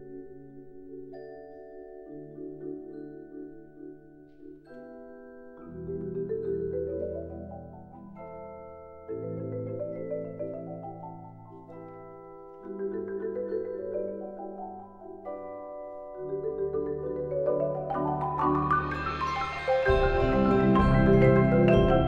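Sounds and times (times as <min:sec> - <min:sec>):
marimbas and vibraphones playing: 0:00.0 - 0:22.0.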